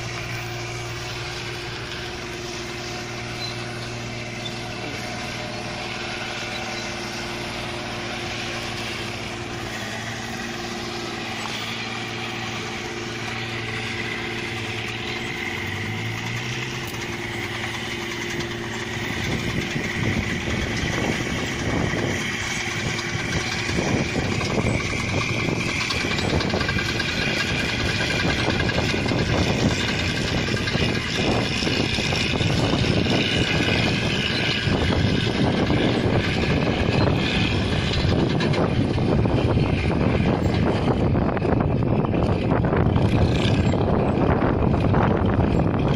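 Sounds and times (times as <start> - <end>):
combine harvester engine: 0.0 - 45.9
heavy machine clatter: 0.0 - 45.9.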